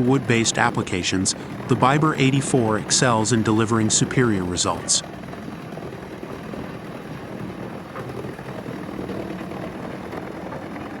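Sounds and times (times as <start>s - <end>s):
wood chipper running: 0.0s - 11.0s.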